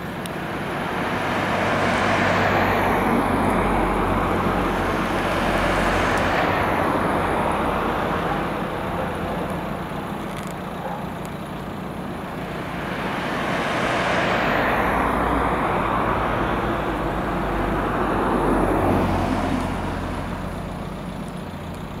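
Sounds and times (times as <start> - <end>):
cars passing close by: 0.0 - 22.0.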